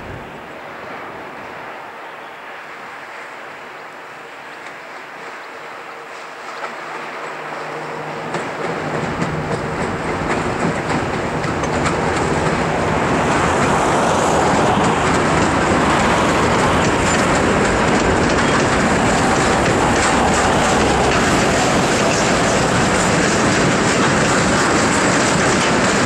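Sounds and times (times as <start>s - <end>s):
diesel locomotive engine running: 4.0s - 26.0s
train wheels clattering on rail joints: 4.4s - 26.0s.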